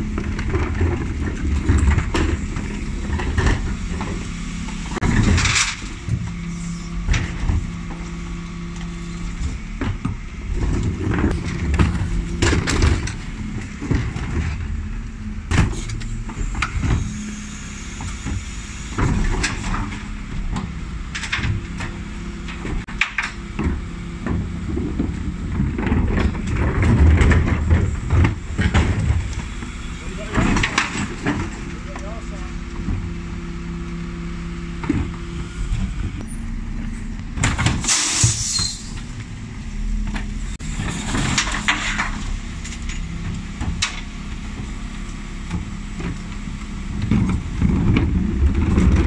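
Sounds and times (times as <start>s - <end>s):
truck engine running: 0.0s - 49.0s.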